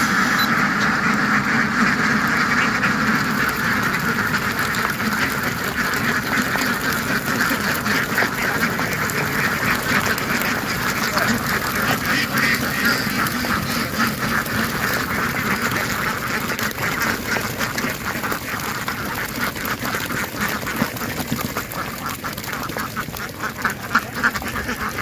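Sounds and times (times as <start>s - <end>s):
ducks quacking: 0.0s - 25.0s.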